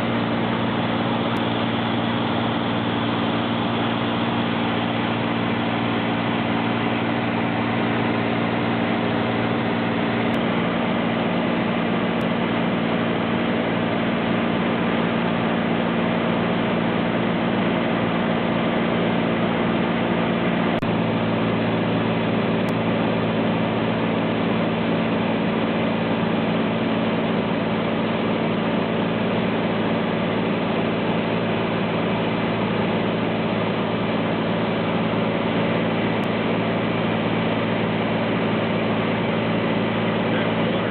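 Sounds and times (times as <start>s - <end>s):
light airplane engine droning: 0.0s - 40.9s.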